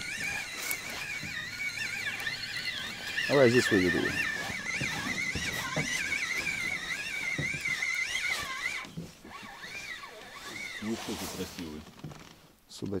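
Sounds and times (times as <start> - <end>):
fishing reel whining: 0.0 - 12.3.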